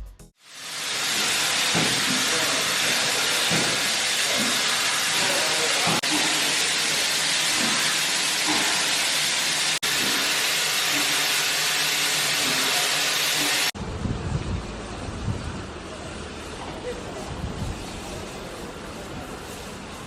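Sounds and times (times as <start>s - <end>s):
steam locomotive venting steam: 0.4s - 13.8s, 14.5s - 20.0s.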